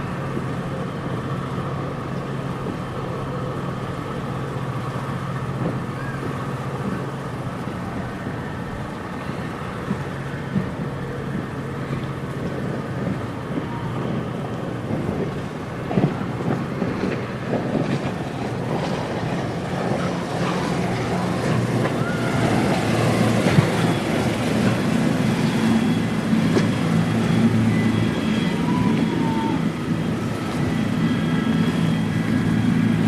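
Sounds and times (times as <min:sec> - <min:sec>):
low engine hum: 0:00.0 - 0:33.0
water flowing gently: 0:00.0 - 0:33.0.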